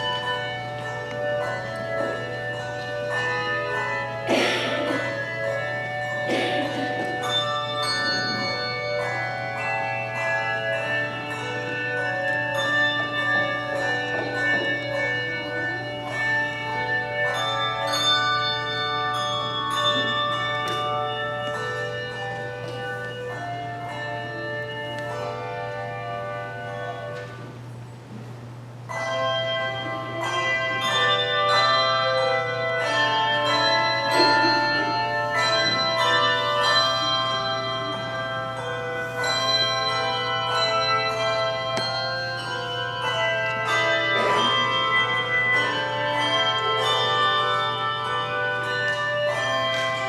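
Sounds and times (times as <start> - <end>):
handbell choir playing: 0.0 - 27.9, 28.7 - 50.0.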